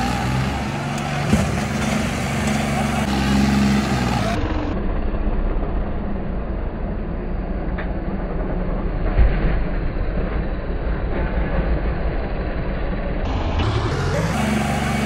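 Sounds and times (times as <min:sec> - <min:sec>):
tractor diesel engine running hard: 0:00.0 - 0:15.0.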